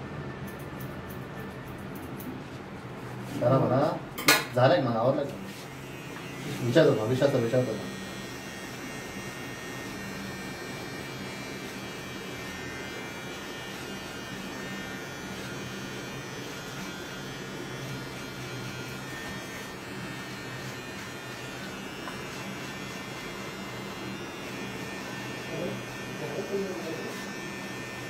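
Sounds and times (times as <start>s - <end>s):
electric hair trimmer buzzing: 5.4s - 28.0s.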